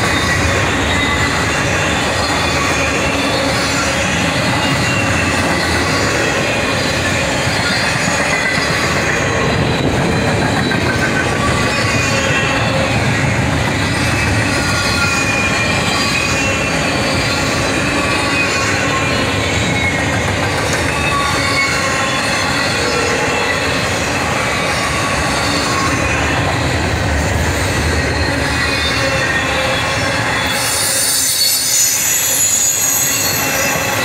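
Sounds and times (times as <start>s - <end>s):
train wheels rumbling on rail: 0.0s - 34.0s
wheels squealing: 0.0s - 34.0s.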